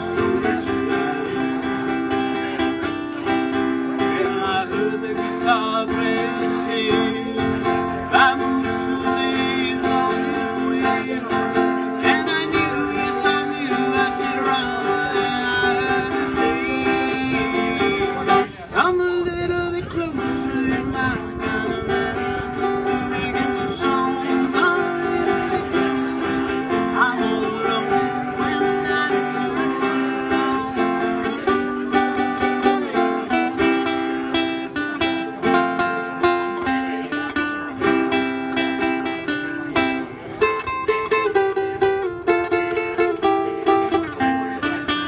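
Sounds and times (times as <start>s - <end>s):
acoustic guitars playing: 0.0s - 45.0s.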